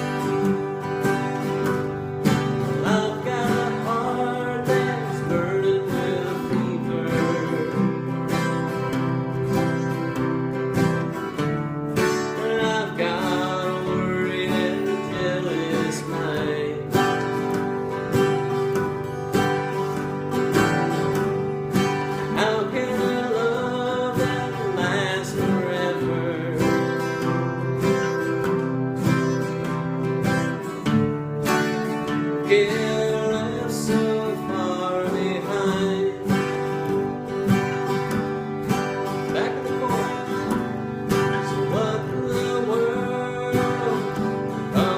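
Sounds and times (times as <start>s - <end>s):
country acoustic guitar music: 0.0s - 44.9s.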